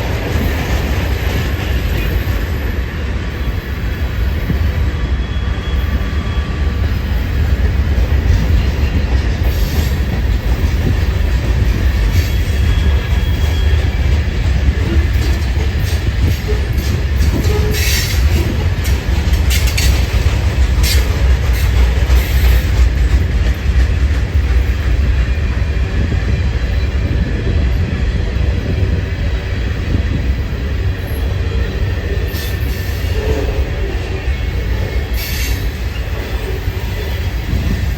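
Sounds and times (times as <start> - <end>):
freight train wheels rumbling: 0.0 - 37.9.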